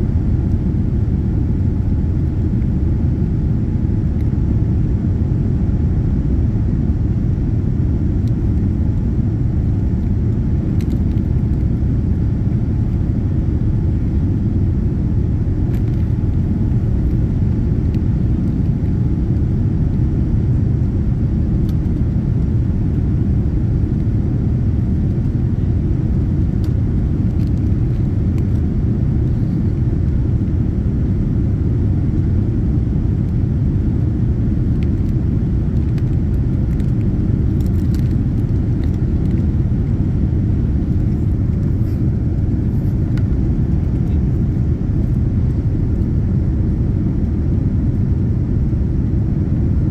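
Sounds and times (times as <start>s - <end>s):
airflow noise: 0.0s - 49.9s
airplane cabin engine rumble: 0.0s - 49.9s.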